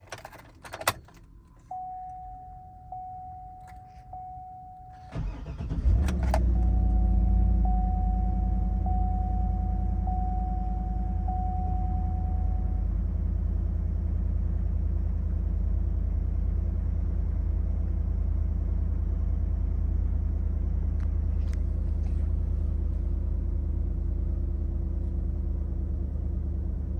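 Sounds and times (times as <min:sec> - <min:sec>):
car engine starting and idling: 0:00.0 - 0:26.9.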